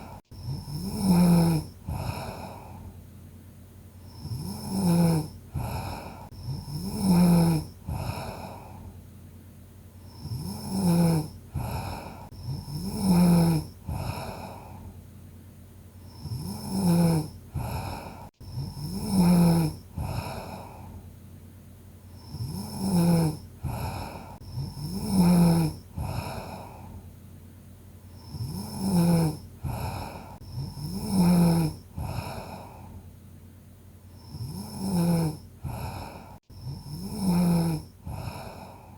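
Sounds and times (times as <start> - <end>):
person snoring: 0.0 - 3.0, 4.0 - 9.0, 10.0 - 15.0, 16.0 - 21.1, 22.1 - 27.0, 28.1 - 33.1, 34.1 - 38.9.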